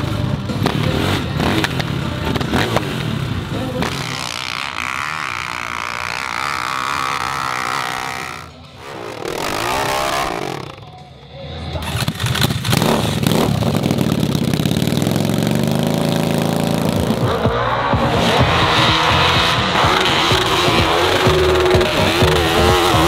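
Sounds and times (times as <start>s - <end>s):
dirt bike engine revving: 0.0s - 11.1s, 11.8s - 23.0s.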